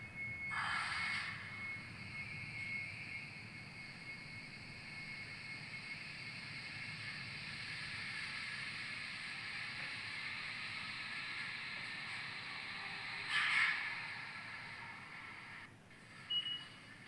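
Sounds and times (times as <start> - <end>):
train running: 0.0 - 16.3.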